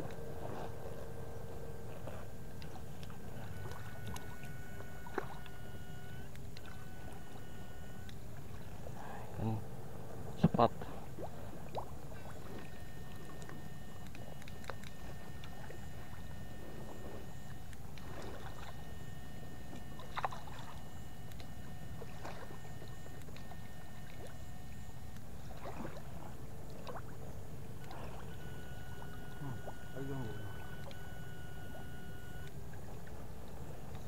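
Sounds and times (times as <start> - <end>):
water sloshing and splashing: 0.0 - 9.4, 10.0 - 34.0.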